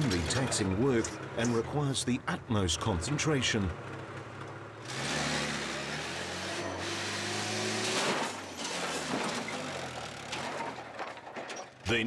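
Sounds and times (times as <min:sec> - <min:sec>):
forklift engine running: 0:00.0 - 0:11.3.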